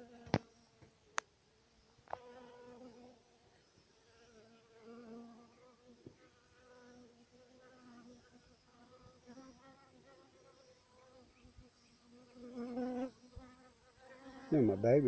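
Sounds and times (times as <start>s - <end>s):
bees buzzing: 2.1s - 15.0s.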